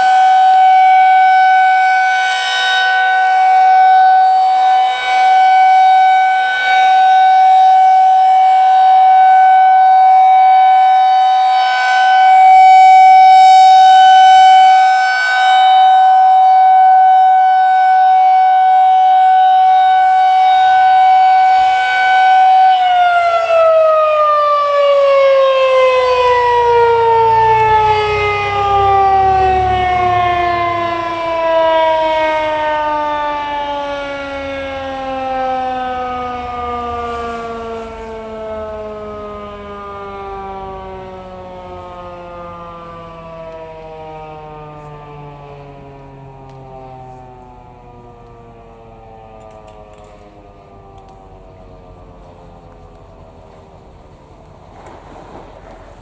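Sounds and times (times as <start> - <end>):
outdoor warning siren: 0.0 - 56.0.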